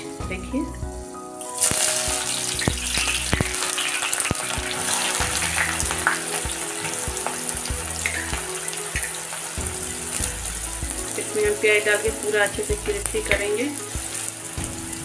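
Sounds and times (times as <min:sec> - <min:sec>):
onions sizzling in hot oil: 0:00.0 - 0:15.0
oil popping: 0:01.4 - 0:15.0.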